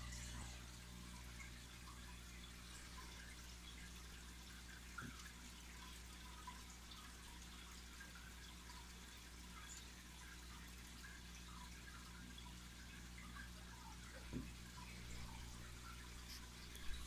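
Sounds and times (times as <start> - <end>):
aquarium air bubbles trickling: 0.0 - 17.0
steady low hum: 0.0 - 17.0.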